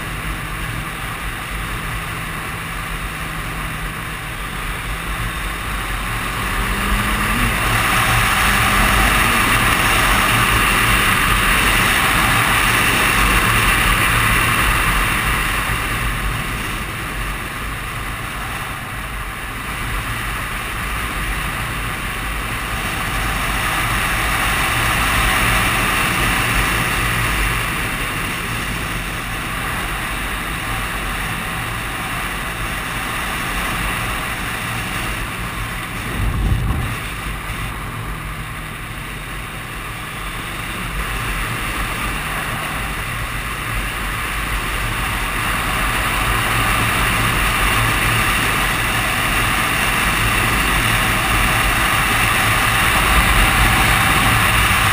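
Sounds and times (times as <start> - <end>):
motorcycle engine running: 0.0 - 54.9
wind rush over microphone: 4.8 - 39.2, 40.0 - 54.9.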